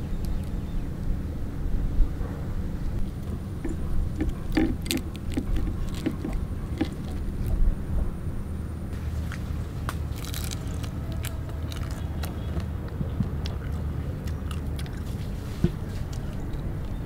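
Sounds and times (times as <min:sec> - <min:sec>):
crunching and chewing shellfish: 0:00.0 - 0:00.8, 0:03.0 - 0:07.8, 0:08.9 - 0:17.0
low background rumble: 0:00.0 - 0:17.0.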